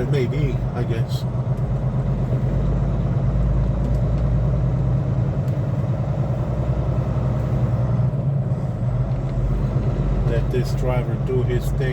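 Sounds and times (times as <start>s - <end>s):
diesel truck engine rumbling: 0.0s - 11.9s.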